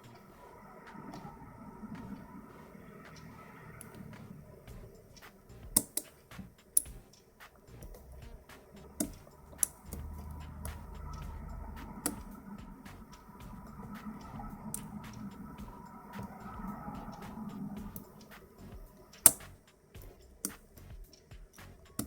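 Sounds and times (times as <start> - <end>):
low handling rumble: 0.0 - 22.0.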